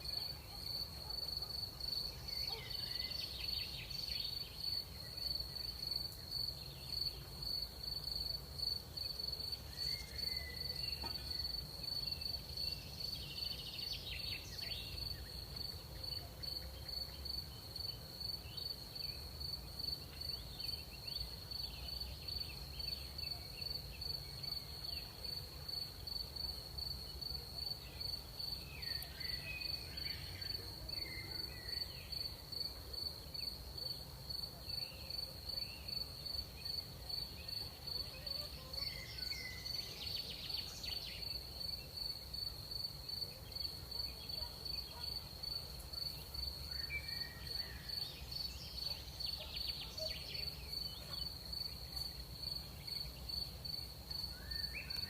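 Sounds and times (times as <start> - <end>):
cricket chirping: 0.0 - 55.0
faint insect chirps: 0.0 - 55.0.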